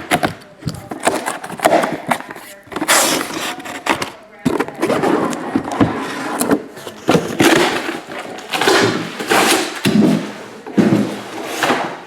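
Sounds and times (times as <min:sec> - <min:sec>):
cardboard scraping and rustling: 0:00.0 - 0:12.0.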